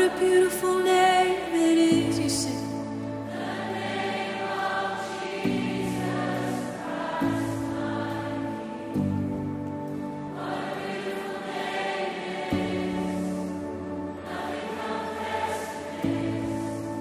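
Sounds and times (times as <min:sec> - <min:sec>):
band sustained chords: 0:00.0 - 0:17.0
many voices singing together: 0:03.0 - 0:17.0.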